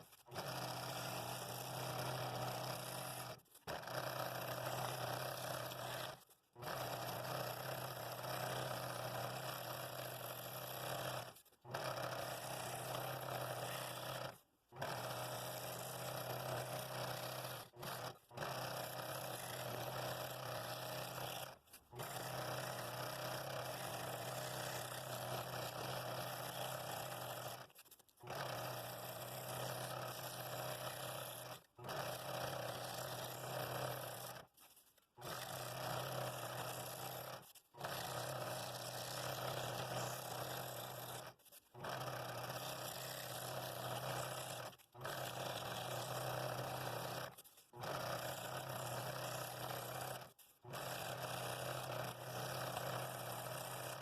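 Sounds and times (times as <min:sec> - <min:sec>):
scroll saw cutting wood: 0:00.0 - 0:54.0.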